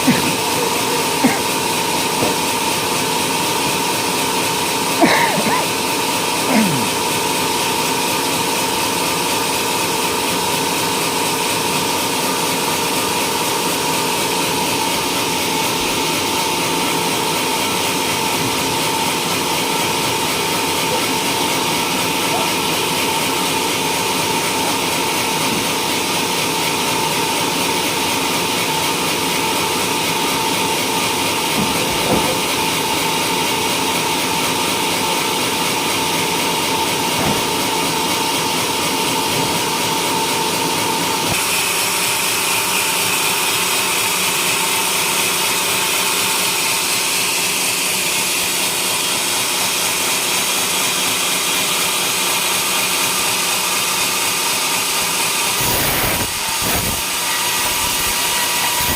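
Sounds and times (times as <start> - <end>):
sawmill saw cutting wood: 0.0 - 58.9.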